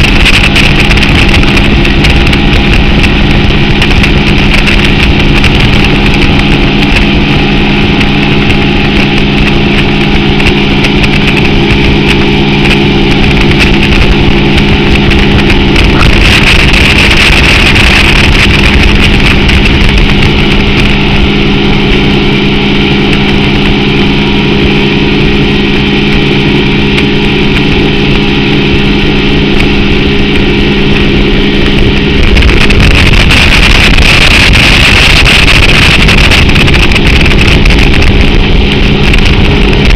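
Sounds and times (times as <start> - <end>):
outboard motor drone: 0.0 - 39.9
rushing wake water: 0.0 - 39.9
wind on the microphone: 0.0 - 39.9.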